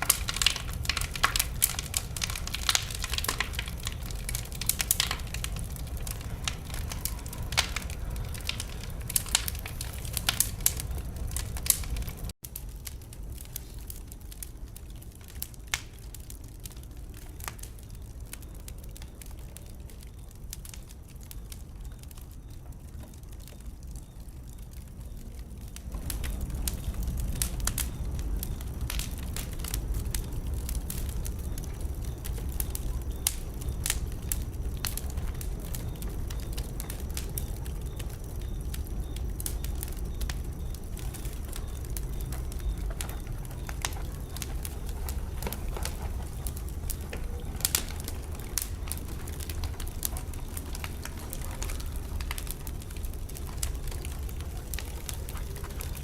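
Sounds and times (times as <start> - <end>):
fire crackling and popping: 0.0 - 56.0
low rumble of flame: 0.0 - 56.0.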